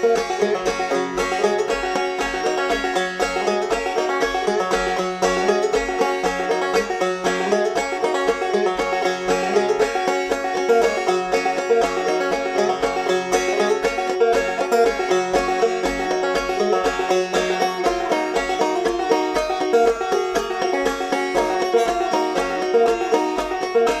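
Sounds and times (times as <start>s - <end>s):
plucked-string instrumental music: 0.0s - 24.0s.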